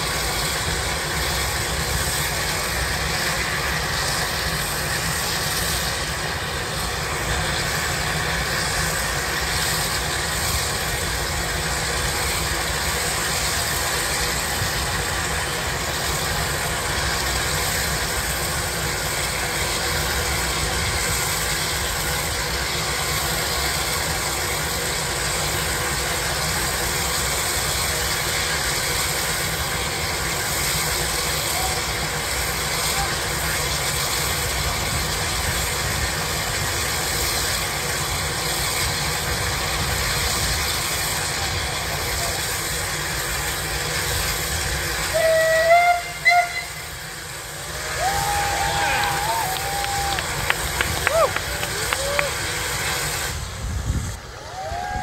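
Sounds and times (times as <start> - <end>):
steam engine working hard: 0.0 - 55.0.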